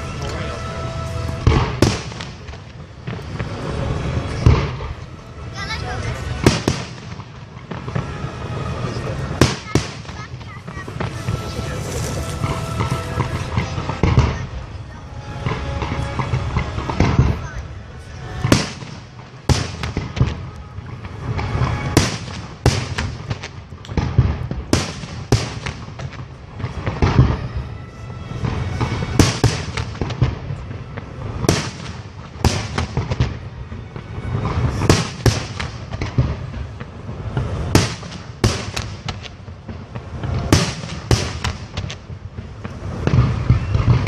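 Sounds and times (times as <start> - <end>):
fireworks bursting with sharp bangs: 0.0 - 44.0
low din of fireworks barrage: 0.0 - 44.0.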